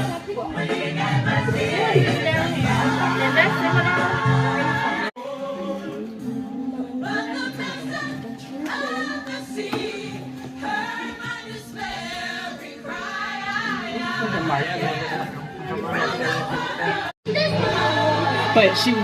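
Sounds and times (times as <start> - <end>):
choir singing gospel: 0.0 - 19.0.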